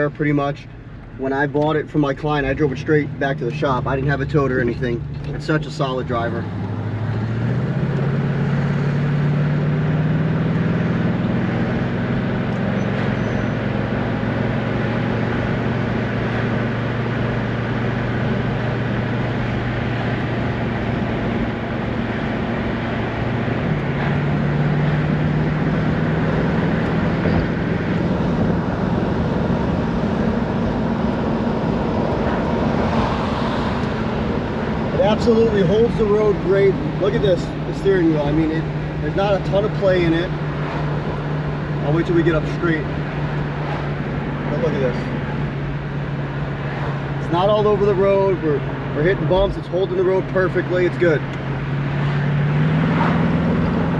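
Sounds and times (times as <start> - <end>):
car engine running: 0.0 - 53.9
road noise: 0.0 - 53.9.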